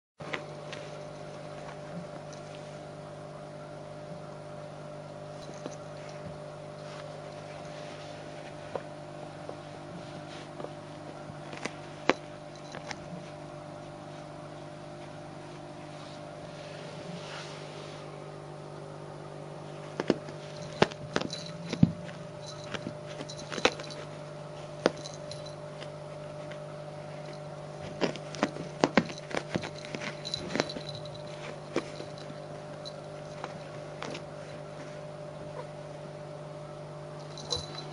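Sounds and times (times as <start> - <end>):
cat claws scratching carpet: 0.2 - 2.9, 5.2 - 18.1, 19.6 - 35.2
steady low hum: 0.2 - 37.9.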